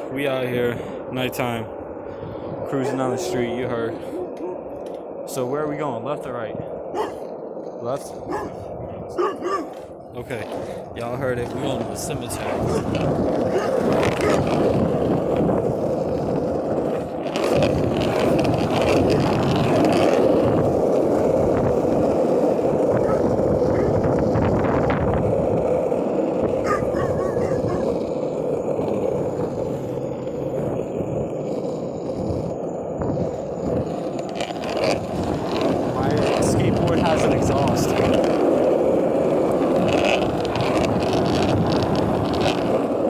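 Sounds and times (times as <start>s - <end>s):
longboard wheels rolling on pavement: 0.0s - 43.0s.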